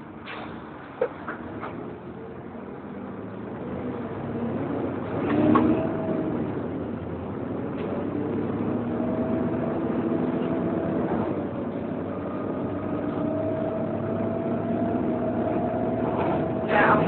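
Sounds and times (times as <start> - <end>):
bus cooling fan whining: 0.0 - 17.0
bus engine and road noise: 0.0 - 17.0.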